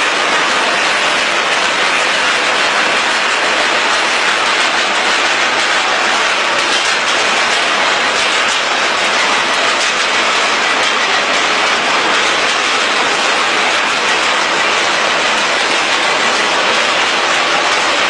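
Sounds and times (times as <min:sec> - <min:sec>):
production line machinery running: 0:00.0 - 0:18.0.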